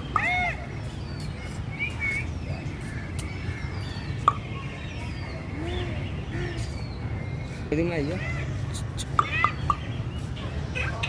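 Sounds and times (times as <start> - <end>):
birds chirping: 0.0 - 11.0
faint low arching bird calls: 0.0 - 11.0.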